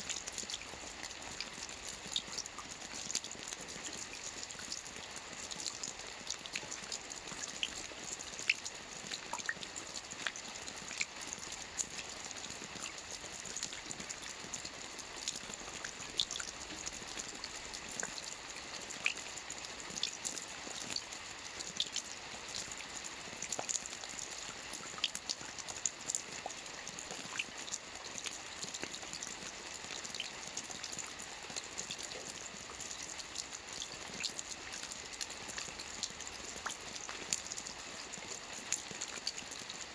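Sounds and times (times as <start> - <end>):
soft rain on a roof: 0.0 - 39.9.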